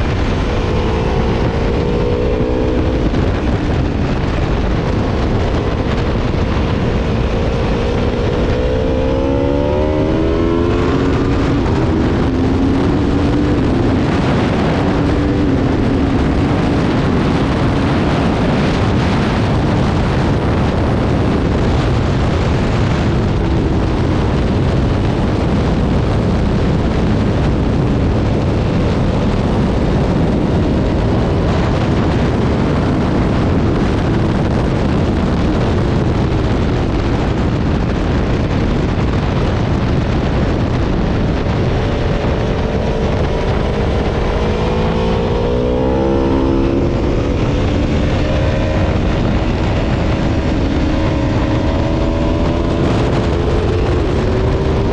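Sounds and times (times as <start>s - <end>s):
motorcycle engine at speed: 0.0s - 54.9s
wind rush: 0.0s - 54.9s.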